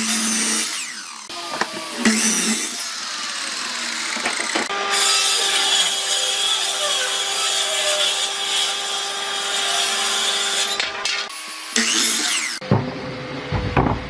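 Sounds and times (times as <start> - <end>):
power tool working wood: 0.0 - 14.0.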